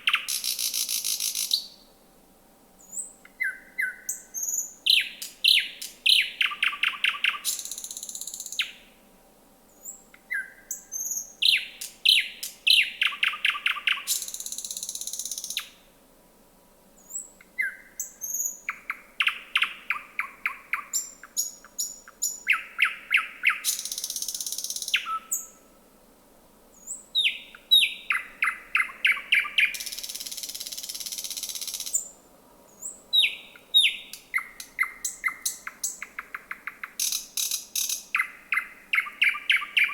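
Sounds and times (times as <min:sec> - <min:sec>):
bird singing with rasping rattles: 0:00.0 - 0:01.7, 0:02.9 - 0:08.8, 0:09.8 - 0:15.8, 0:17.1 - 0:25.6, 0:26.8 - 0:32.1, 0:32.8 - 0:39.9.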